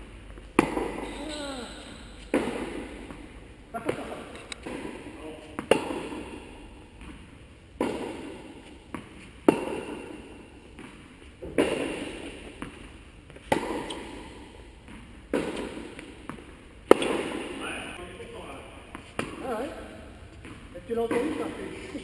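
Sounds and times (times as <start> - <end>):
ball bouncing: 0.3 - 17.6, 18.8 - 21.8
racket hitting tennis ball: 0.5 - 17.6, 18.8 - 19.4.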